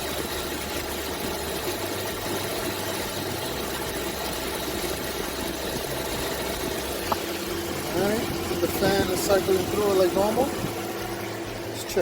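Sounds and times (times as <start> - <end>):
car engine idling: 0.0 - 12.0
electric radiator fan running: 0.0 - 12.0.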